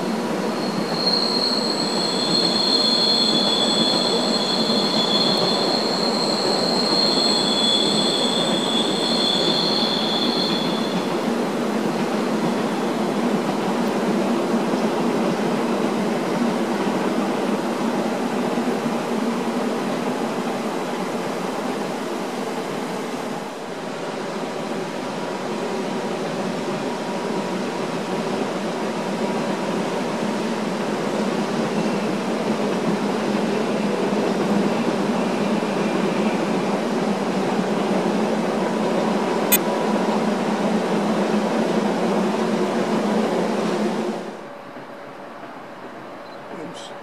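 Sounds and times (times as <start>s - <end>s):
train rumbling over rails: 0.0s - 47.0s.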